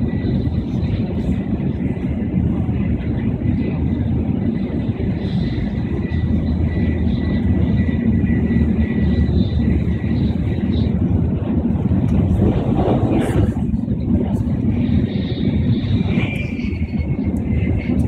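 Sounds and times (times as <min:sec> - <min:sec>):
train cabin low rumble: 0:00.0 - 0:18.0.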